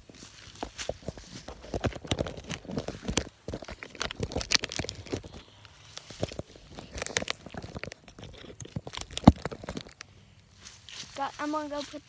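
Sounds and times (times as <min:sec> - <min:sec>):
dry sticks crunching and snapping: 0:00.0 - 0:12.0.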